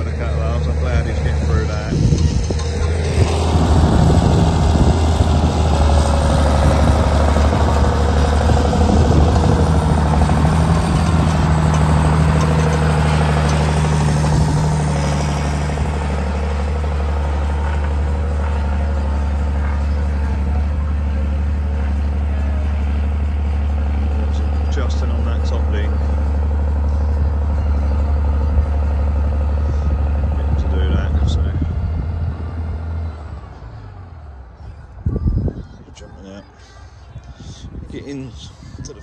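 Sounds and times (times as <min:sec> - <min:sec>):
tractor engine under load: 0:00.0 - 0:35.2.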